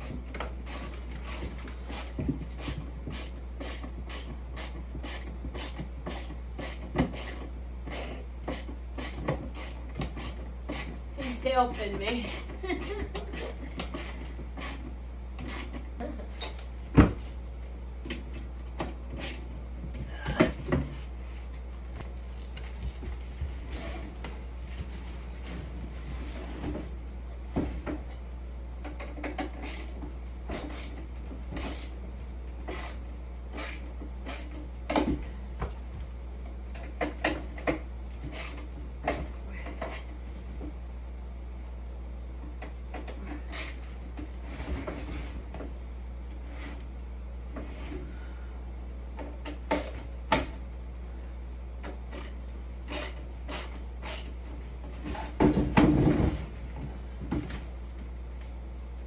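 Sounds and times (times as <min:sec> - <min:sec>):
low hum: 0:06.0 - 0:59.0.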